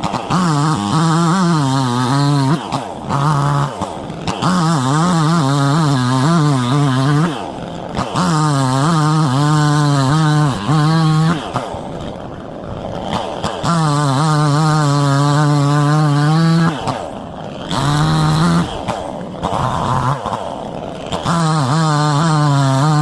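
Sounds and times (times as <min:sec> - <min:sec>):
chainsaw revving and cutting wood: 0:00.0 - 0:23.0.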